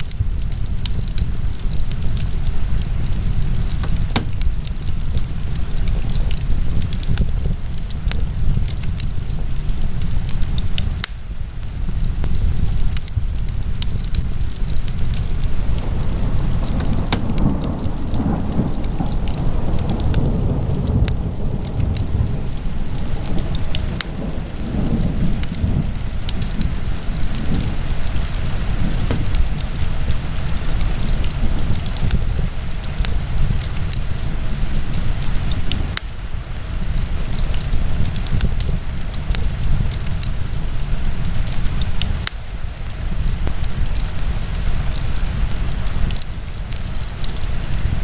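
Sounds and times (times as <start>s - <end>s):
fire crackling and popping: 0.0s - 48.0s
low rumble of flames: 0.0s - 48.0s.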